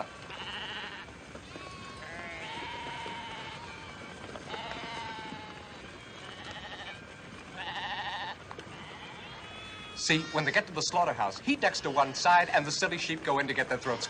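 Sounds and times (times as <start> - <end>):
sheep bleating: 0.1 - 7.0, 7.6 - 14.0.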